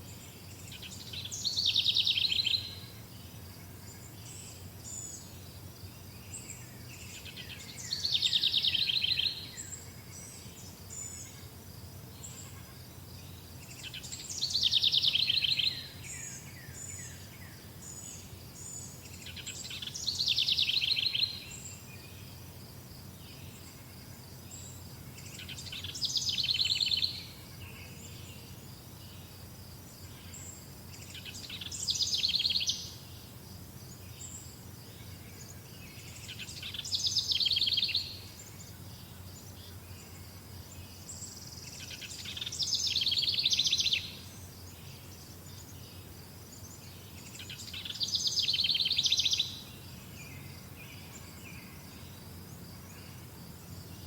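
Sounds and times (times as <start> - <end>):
faint high insect trill: 0.0 - 54.0.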